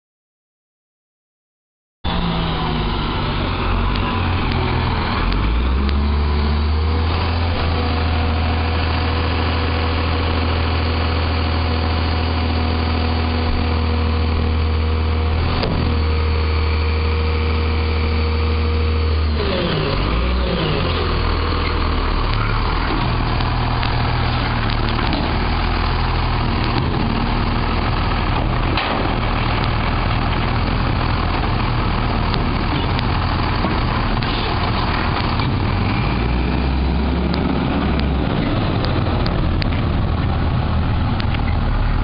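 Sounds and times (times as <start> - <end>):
engine whine: 2.0 - 42.0
diesel truck engine running: 2.1 - 42.0.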